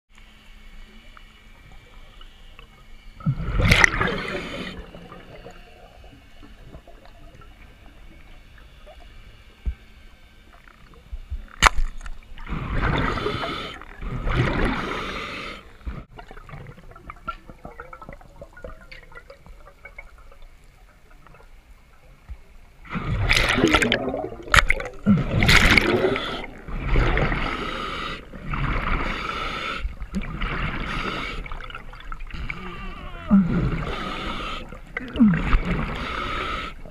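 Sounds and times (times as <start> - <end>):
water splashing and gurgling: 1.6 - 36.9.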